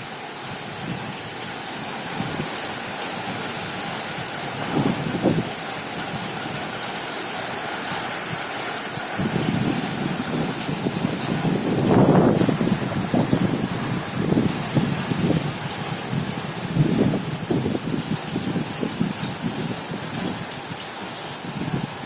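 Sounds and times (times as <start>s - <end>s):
heavy rain falling: 0.0s - 22.0s
wind gusts buffeting microphone: 0.5s - 22.0s.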